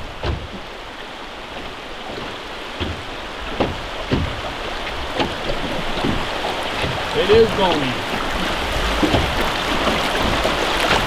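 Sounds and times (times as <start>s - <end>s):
short knocks: 0.0s - 0.7s, 1.6s - 8.0s, 8.8s - 11.0s
river water rushing around hull: 0.0s - 11.0s.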